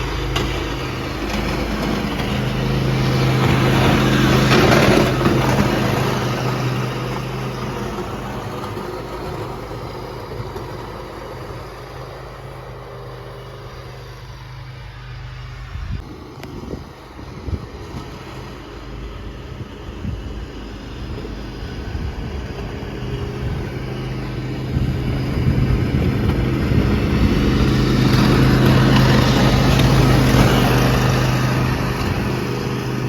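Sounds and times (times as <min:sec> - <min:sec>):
snow-clearing vehicle engine running: 0:00.0 - 0:33.0.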